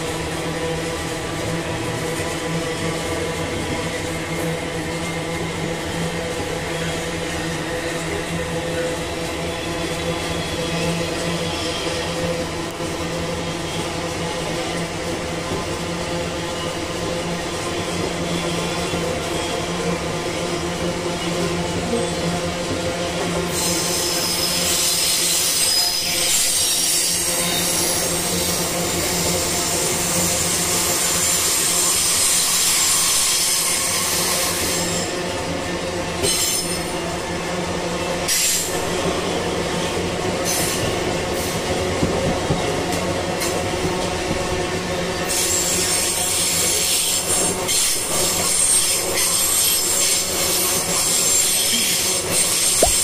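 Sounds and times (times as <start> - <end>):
freight train rumbling: 0.0 - 53.0.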